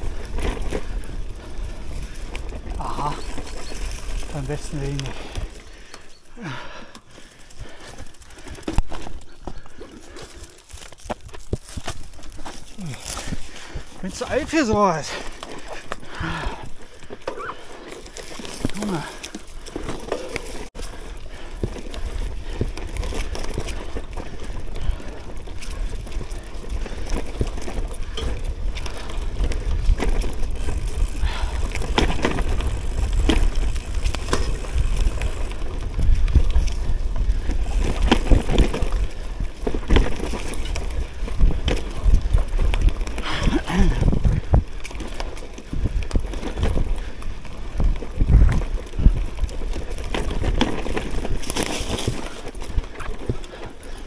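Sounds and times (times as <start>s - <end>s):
bike clattering over bumps: 0.0s - 54.0s
tyre and wind rumble: 0.0s - 54.0s.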